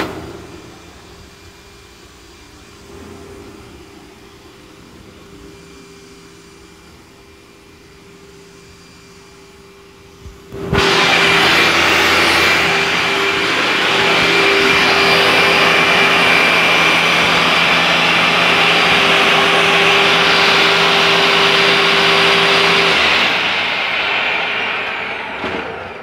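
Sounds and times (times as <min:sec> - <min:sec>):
vacuum cleaner running: 0:00.0 - 0:26.0
motor winding down: 0:00.6 - 0:26.0.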